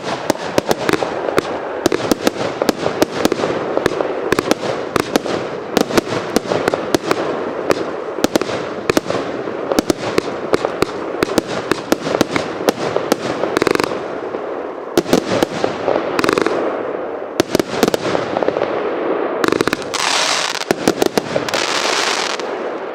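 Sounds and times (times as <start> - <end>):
firework bangs and crackling: 0.0 - 22.9.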